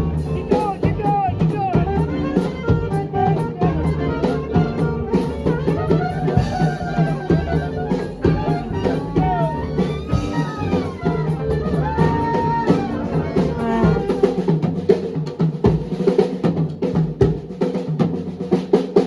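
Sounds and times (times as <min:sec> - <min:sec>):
drum kit beat: 0:00.0 - 0:19.0
swing band playing: 0:00.0 - 0:19.0.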